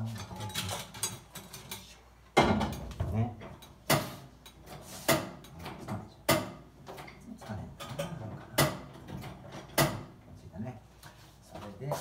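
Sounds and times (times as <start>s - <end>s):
cookware clattering in cupboard: 0.0s - 10.2s.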